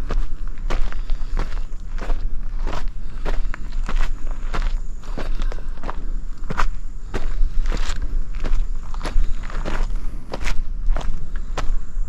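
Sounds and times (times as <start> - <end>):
footsteps on forest trail: 0.0 - 12.0.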